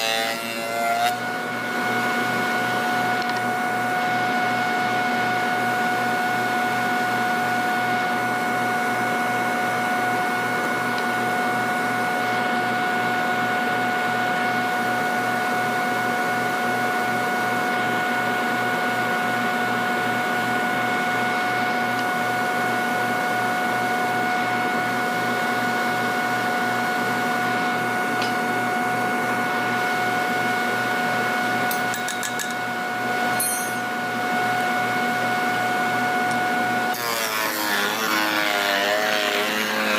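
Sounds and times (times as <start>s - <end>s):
workshop machinery whining: 0.0s - 39.9s.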